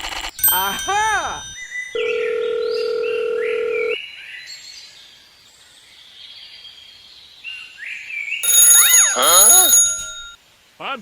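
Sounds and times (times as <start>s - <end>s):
birds chirping: 0.4s - 10.3s.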